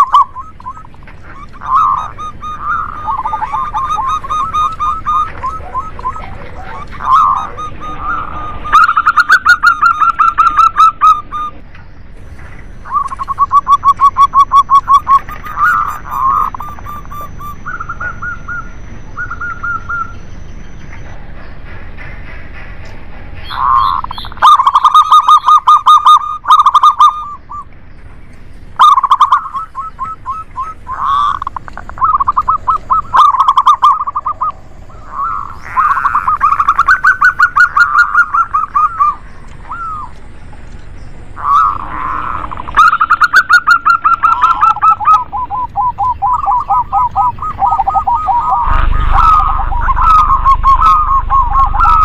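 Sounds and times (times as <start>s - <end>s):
doves cooing: 0.0s - 20.2s, 23.4s - 27.7s, 28.7s - 52.0s.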